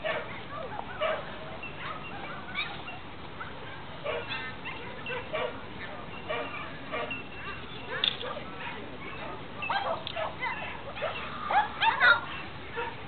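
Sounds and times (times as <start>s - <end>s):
dogs barking and yipping: 0.0s - 13.0s
steady background noise: 0.0s - 13.0s.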